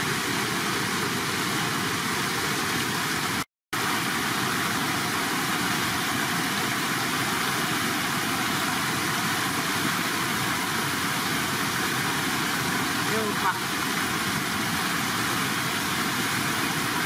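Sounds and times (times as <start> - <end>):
water rushing over spillway: 0.0 - 17.0.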